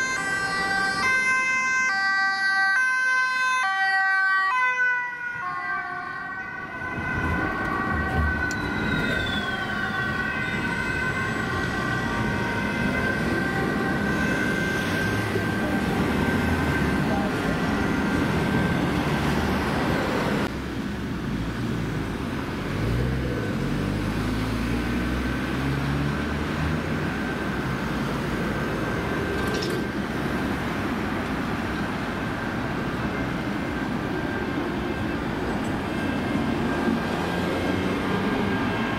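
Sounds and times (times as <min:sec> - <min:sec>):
ambulance siren: 0:00.0 - 0:20.5, 0:24.3 - 0:38.9
road traffic: 0:00.0 - 0:38.9.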